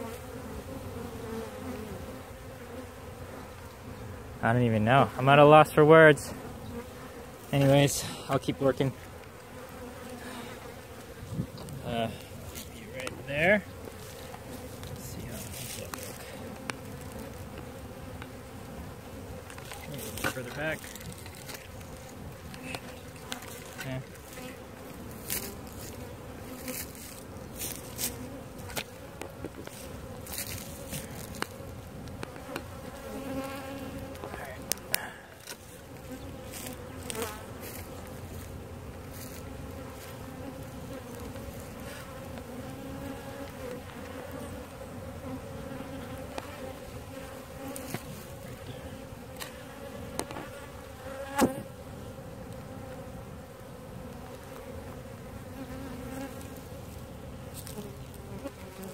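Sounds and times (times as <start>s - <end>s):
bee colony buzzing: 0.0s - 58.9s.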